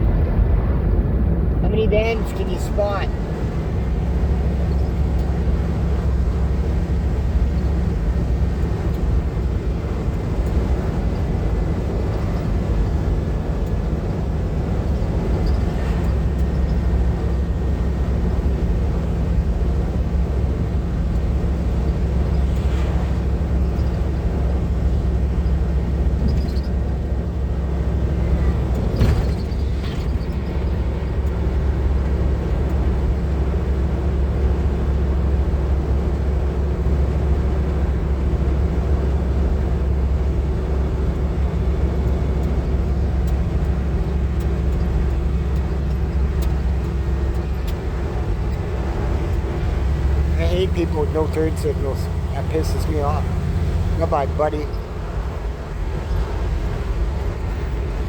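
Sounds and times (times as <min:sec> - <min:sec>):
van engine rumble: 0:00.0 - 0:58.0.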